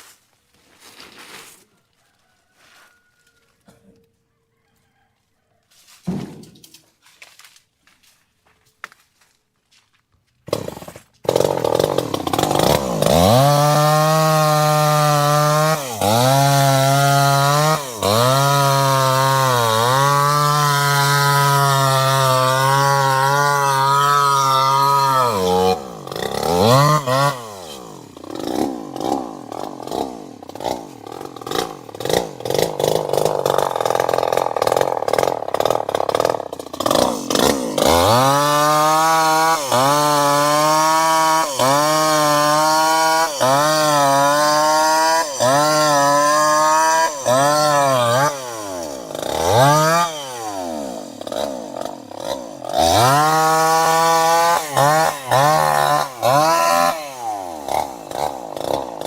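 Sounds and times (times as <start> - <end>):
chainsaw engine revving: 10.5 - 59.0.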